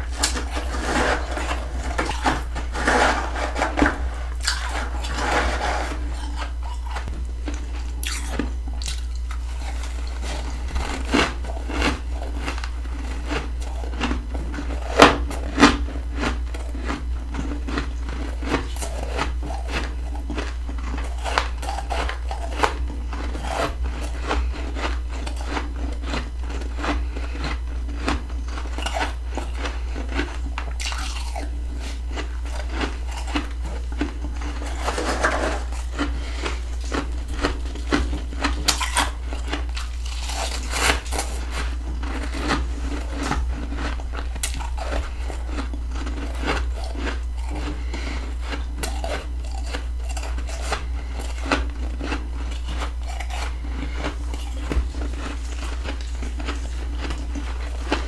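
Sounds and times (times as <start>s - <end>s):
chewing frost crunching: 0.0s - 58.0s
steady low hum: 0.0s - 58.0s.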